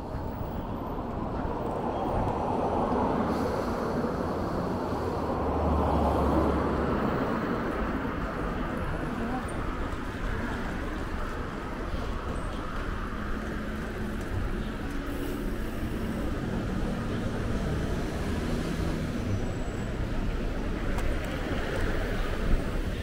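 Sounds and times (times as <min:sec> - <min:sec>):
road traffic noise: 0:00.0 - 0:23.0
passing vehicle engine hum: 0:01.4 - 0:23.0.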